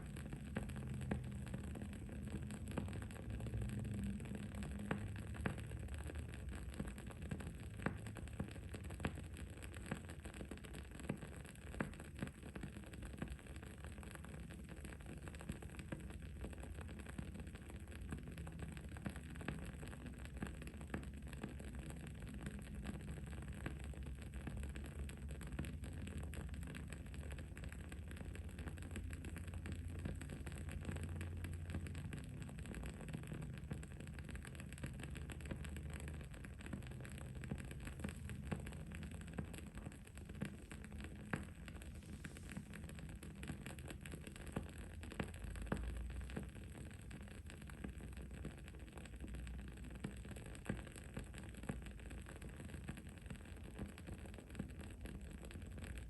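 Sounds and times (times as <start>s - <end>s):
candle crackling and popping: 0.0s - 56.0s.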